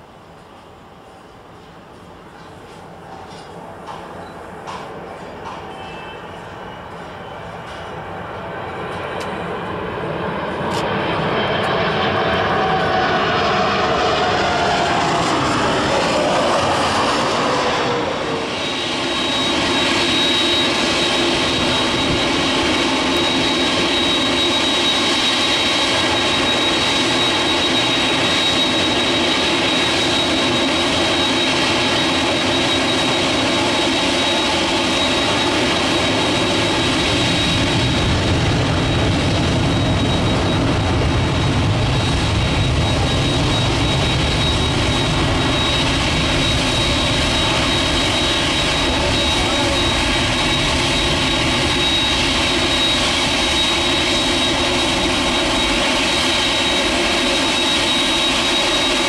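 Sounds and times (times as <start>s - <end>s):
jet engines rumbling with whine: 0.0s - 59.0s.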